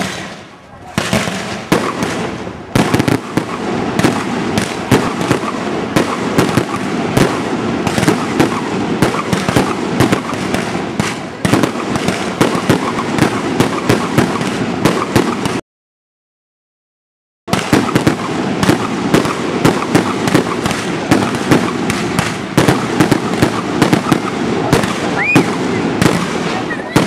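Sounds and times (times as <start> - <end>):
fireworks bursting: 0.0 - 15.6, 17.5 - 27.0.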